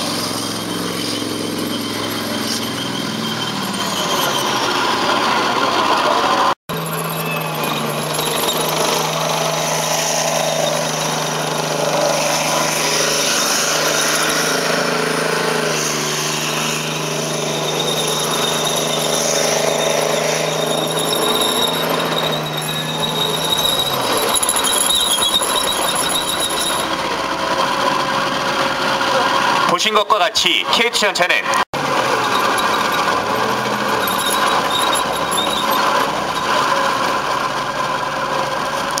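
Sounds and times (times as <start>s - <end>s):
tank tracks clattering and squealing: 0.0s - 27.8s, 31.5s - 39.0s
tank engine running: 0.0s - 29.7s, 31.8s - 39.0s.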